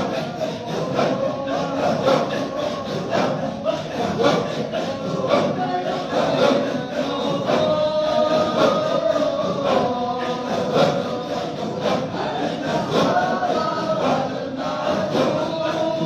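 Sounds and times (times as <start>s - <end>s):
group chanting in unison: 0.0s - 16.0s
sharp beat strokes: 0.0s - 16.0s.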